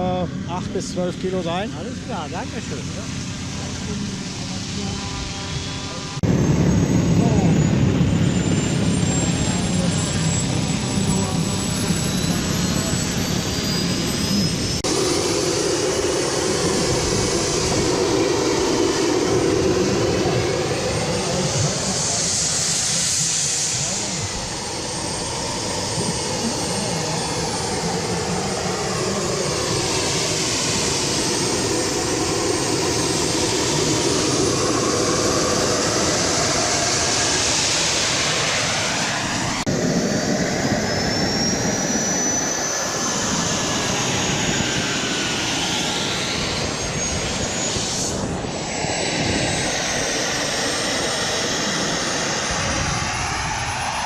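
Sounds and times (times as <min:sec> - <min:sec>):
jet turbines whining: 0:00.0 - 0:54.0.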